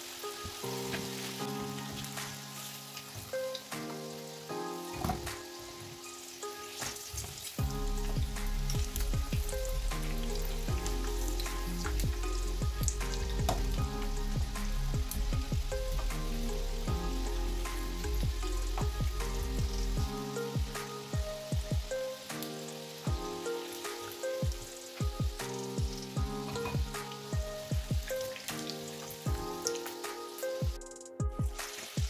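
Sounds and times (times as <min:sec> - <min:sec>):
potatoes sizzling in hot oil: 0:00.0 - 0:30.7, 0:31.6 - 0:32.0
background music: 0:00.0 - 0:32.0.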